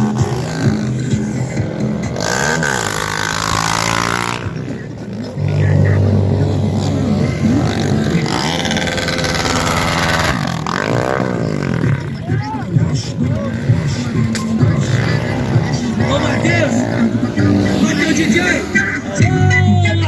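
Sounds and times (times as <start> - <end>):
motorcycle engines revving: 0.0 - 20.0
steady low engine sound: 0.0 - 20.0.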